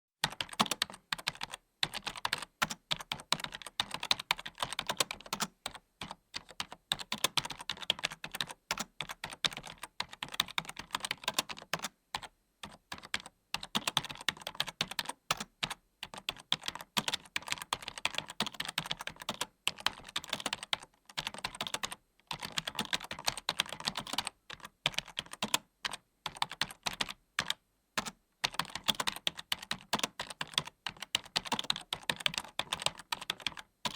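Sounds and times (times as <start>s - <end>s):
typing on keyboard: 0.2s - 33.9s.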